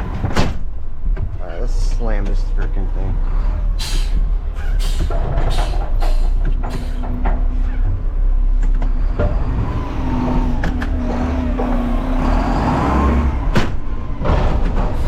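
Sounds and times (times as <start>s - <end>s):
garbage truck diesel engine: 0.0s - 15.0s.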